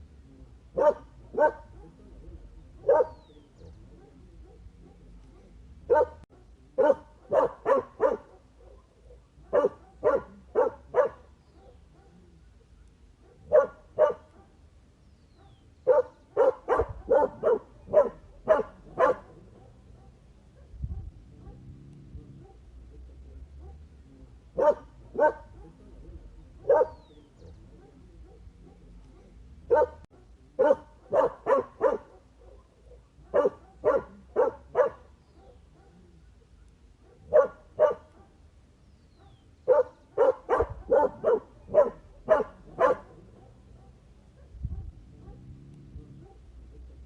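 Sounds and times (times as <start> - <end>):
dog barking: 0.7 - 12.4, 13.2 - 14.7, 15.3 - 38.5, 39.2 - 47.0.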